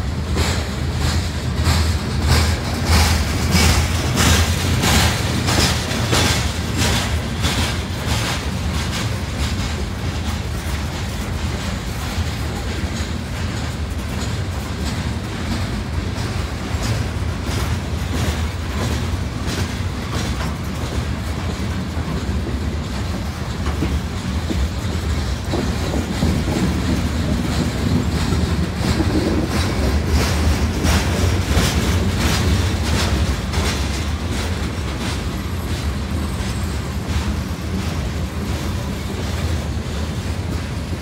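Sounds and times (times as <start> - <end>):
freight train rolling past: 0.0 - 41.0
wheels clicking over rail joints: 0.0 - 41.0.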